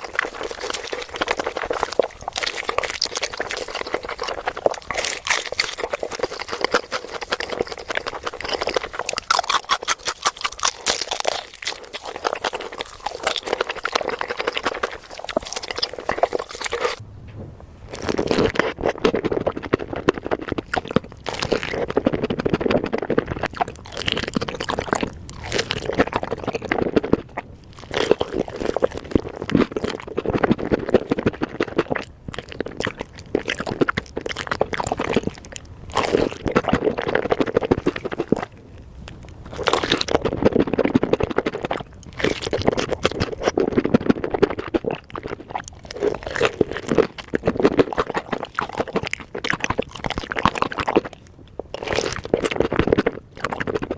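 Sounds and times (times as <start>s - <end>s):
chewing crunchy food: 0.0s - 17.0s, 17.9s - 53.9s
wet mouth sounds: 0.0s - 17.0s, 17.9s - 53.9s.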